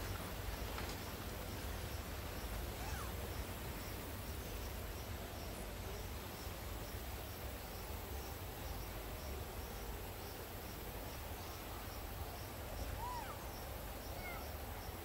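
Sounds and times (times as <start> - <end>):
faint high insect chirp: 0.0 - 15.0
steady hiss and low rumble: 0.0 - 15.0.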